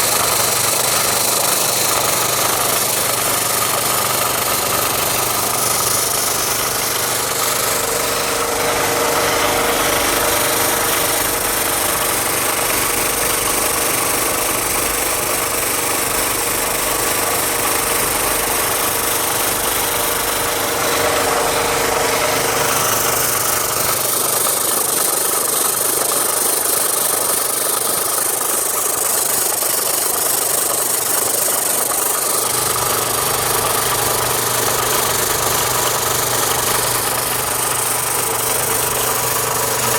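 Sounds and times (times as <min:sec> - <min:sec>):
sanding machine motor hum: 0:00.0 - 0:39.9.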